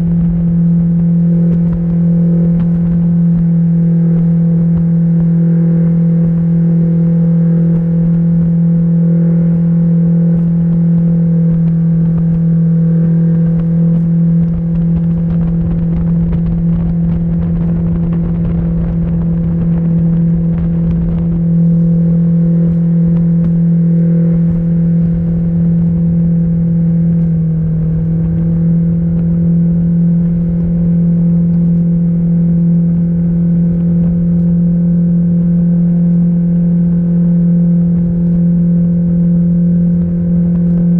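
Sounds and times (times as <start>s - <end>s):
outboard motor drone: 0.0s - 40.9s.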